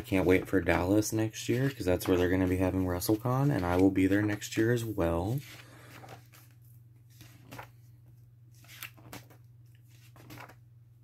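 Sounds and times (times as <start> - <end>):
book pages turning: 0.0 - 10.6.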